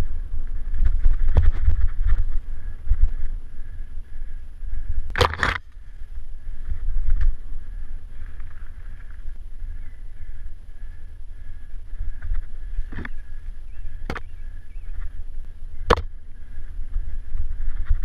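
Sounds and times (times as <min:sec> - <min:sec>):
bike rattles and clatter: 0:00.0 - 0:18.0
faint high bike whir: 0:00.0 - 0:18.0
wind rumbling on microphone: 0:00.0 - 0:18.0.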